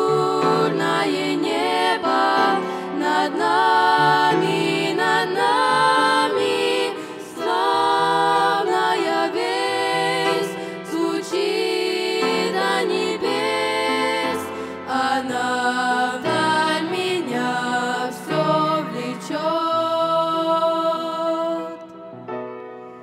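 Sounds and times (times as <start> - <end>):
girls singing a hymn in harmony: 0.0 - 21.9.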